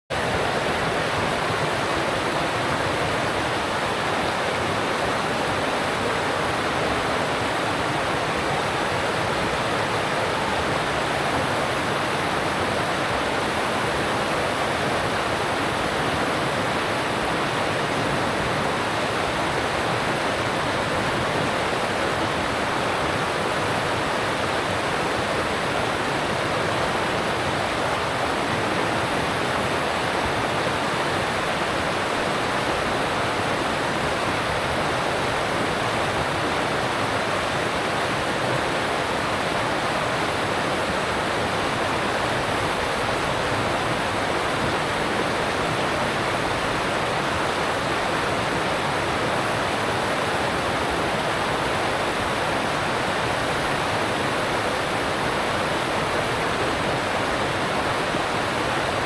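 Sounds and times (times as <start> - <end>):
stream rushing over rocks: 0.1 - 59.0.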